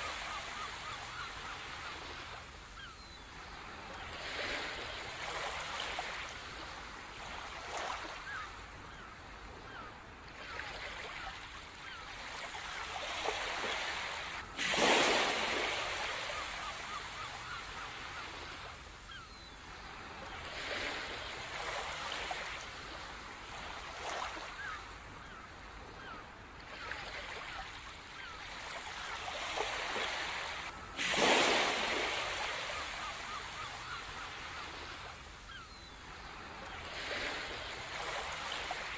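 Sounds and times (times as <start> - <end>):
ocean surf: 0.0 - 9.8, 10.4 - 18.9, 19.7 - 38.9
faint bird calls: 0.0 - 38.9.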